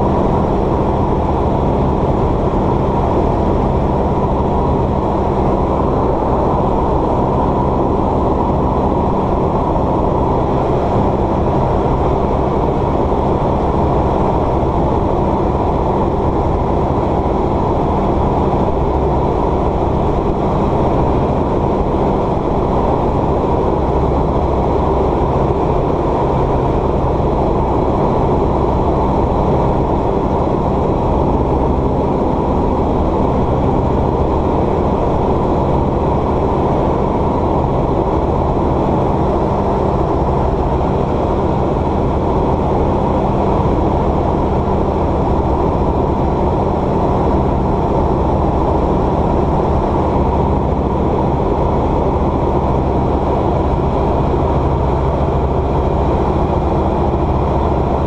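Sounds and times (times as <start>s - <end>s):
propeller plane engine drone: 0.0s - 58.0s.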